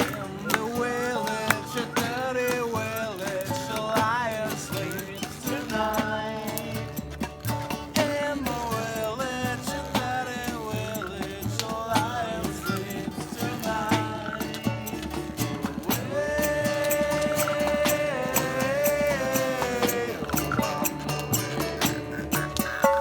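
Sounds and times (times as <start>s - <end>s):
people singing: 0.0s - 23.0s
strummed acoustic guitar: 0.0s - 23.0s.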